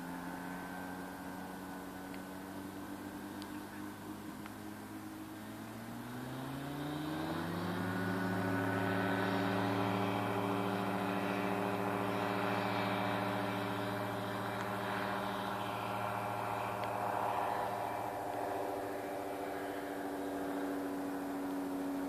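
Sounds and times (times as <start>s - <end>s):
two-stroke aircraft engine: 0.0s - 22.0s.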